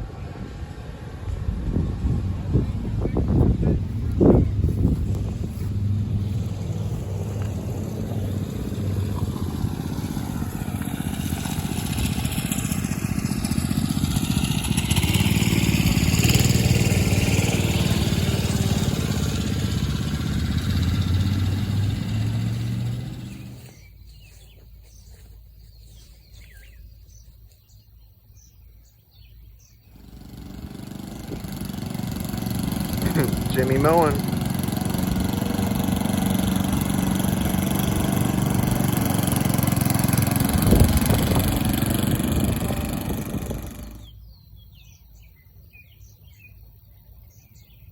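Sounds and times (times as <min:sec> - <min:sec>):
minibike engine passing: 0:00.0 - 0:24.4, 0:29.7 - 0:44.9
birds chirping: 0:00.0 - 0:47.9.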